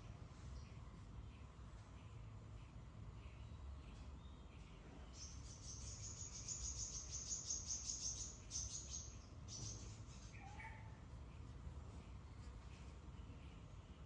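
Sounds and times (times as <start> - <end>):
faint chirp: 0.0 - 14.0.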